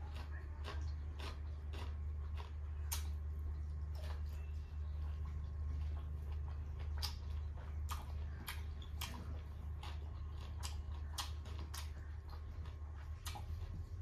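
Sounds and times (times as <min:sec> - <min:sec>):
person chewing with wet mouth clicks: 0:00.0 - 0:04.2, 0:05.0 - 0:14.0
steady low hum: 0:00.0 - 0:14.0.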